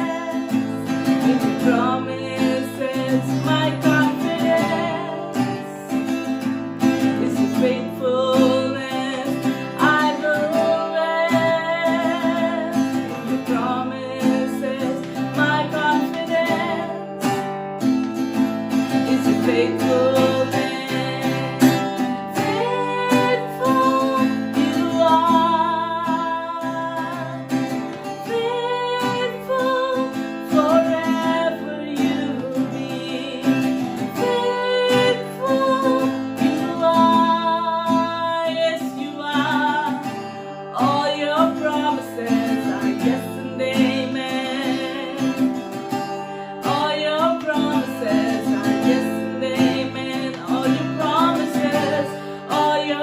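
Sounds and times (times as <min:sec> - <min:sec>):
person singing slowly: 0:00.0 - 0:06.1, 0:07.2 - 0:17.1, 0:19.0 - 0:40.0, 0:46.6 - 0:53.0
strummed acoustic guitar: 0:00.0 - 0:53.0.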